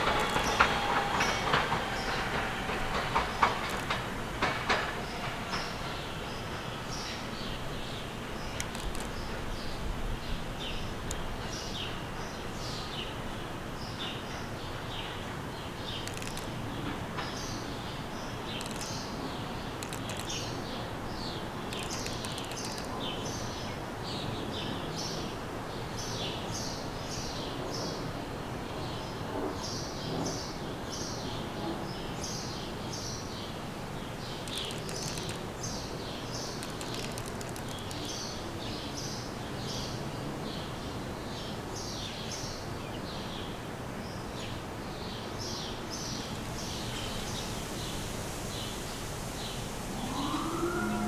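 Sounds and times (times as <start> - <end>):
songbirds chirping: 0.0 - 25.2, 32.2 - 51.0
low background noise: 0.0 - 51.0.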